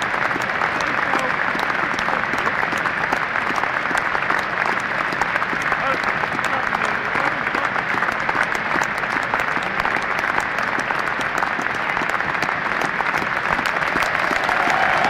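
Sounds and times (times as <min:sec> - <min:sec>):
stadium crowd applauding: 0:00.0 - 0:15.0.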